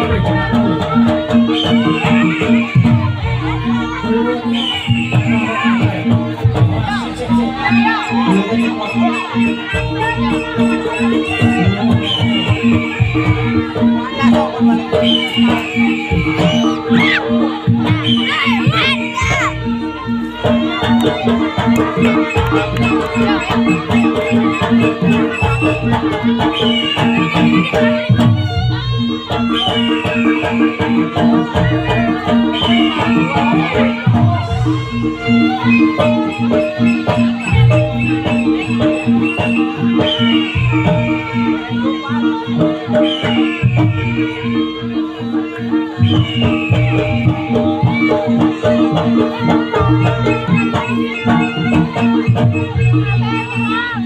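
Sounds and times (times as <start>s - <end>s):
hand drums: 0.0s - 54.0s
high melody line: 0.0s - 54.0s
pitched percussion pattern: 0.0s - 54.0s.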